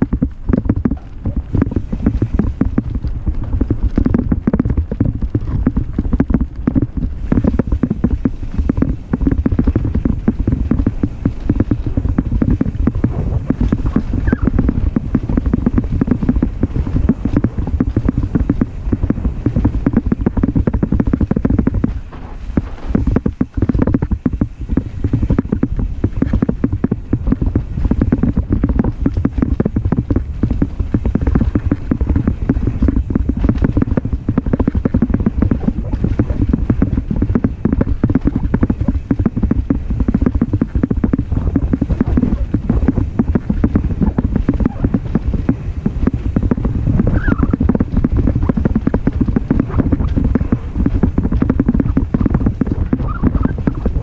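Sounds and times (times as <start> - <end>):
bike rattling and knocking: 0.0 - 54.0
tyres rumbling on dirt: 0.0 - 54.0.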